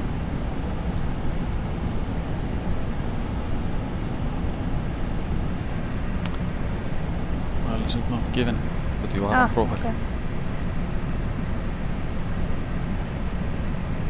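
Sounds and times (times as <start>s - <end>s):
rushing airflow and engines: 0.0s - 14.0s.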